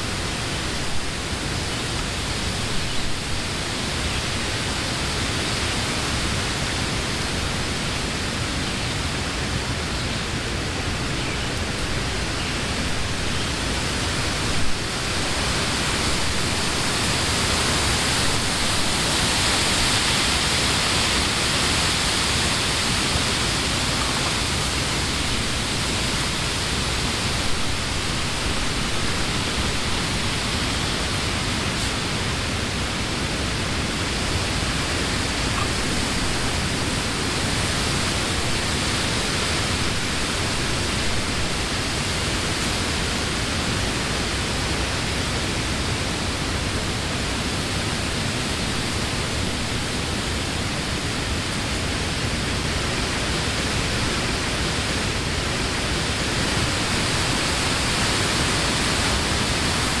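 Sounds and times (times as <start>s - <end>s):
wind through tree leaves: 0.0s - 60.0s.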